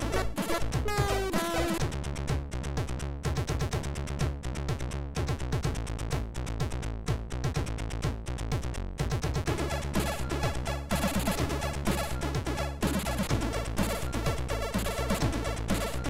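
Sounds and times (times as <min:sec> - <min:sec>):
chiptune music with bass and drums: 0:00.0 - 0:16.0.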